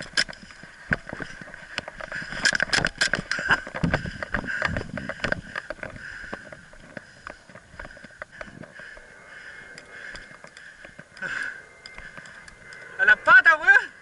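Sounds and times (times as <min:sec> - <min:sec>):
high-pitched hum: 0:00.0 - 0:14.0.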